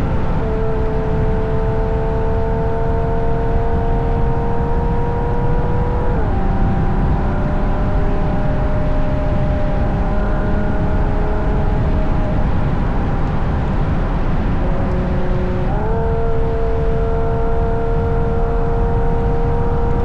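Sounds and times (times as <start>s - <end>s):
car engine drone: 0.0s - 20.0s
road and wind noise: 0.0s - 20.0s.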